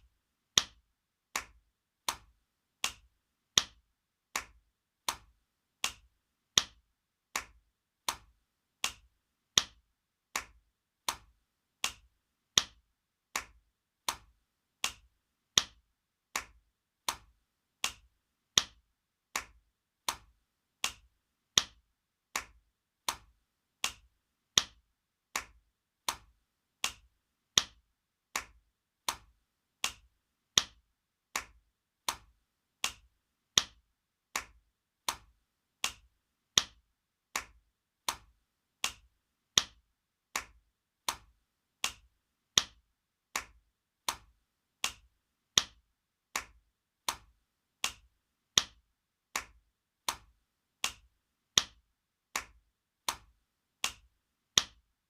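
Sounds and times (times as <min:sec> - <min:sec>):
hand slapping skin: 0:00.6 - 0:54.8.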